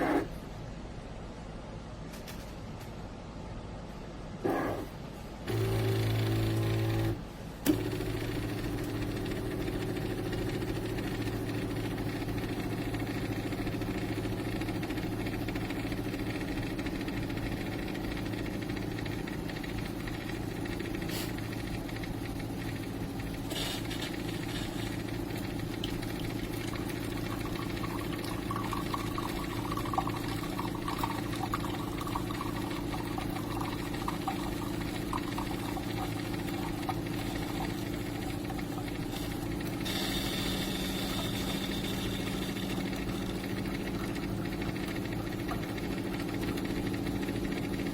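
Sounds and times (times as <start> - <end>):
coffee maker pump hum: 0.0 - 0.3, 4.4 - 47.9.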